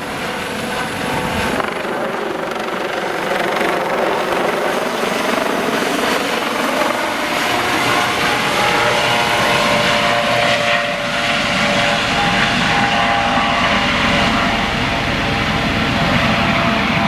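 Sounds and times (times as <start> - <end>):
helicopter rotor noise: 0.0 - 17.0
helicopter turbine whine: 0.0 - 17.0.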